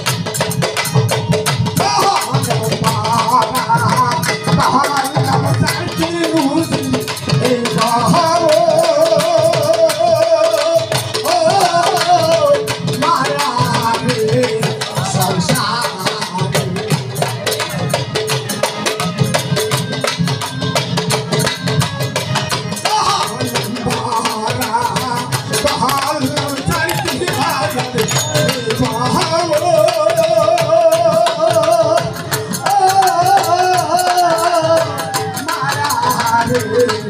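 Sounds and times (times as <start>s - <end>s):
dhol drums: 0.0s - 37.0s
harmonium: 0.0s - 37.0s
violin melody with vibrato: 0.0s - 37.0s.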